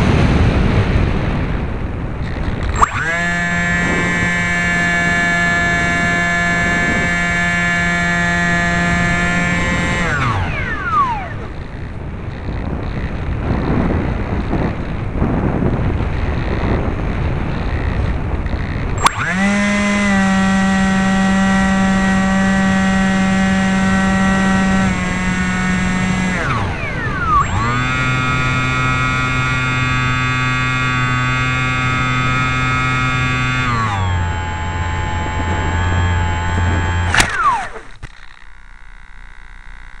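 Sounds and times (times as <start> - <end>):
electric motor and propeller whine: 0.0 - 40.0
wind rushing over camera: 0.0 - 40.0.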